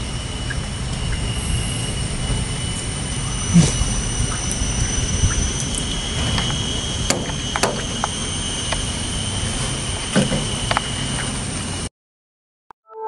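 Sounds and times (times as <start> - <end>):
high-pitched whine: 0.0 - 11.9
low rumble: 0.0 - 11.9.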